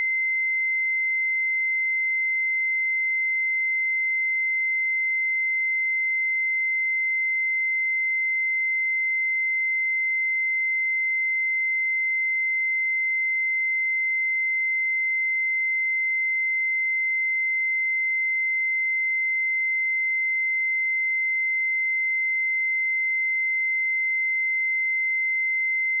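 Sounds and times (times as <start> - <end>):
high-pitched sine test tone: 0.0 - 26.0.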